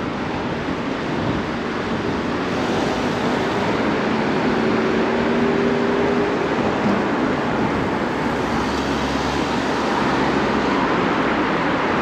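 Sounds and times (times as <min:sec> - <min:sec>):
city street traffic: 0:00.0 - 0:12.0
wind rushing over microphone: 0:00.0 - 0:12.0.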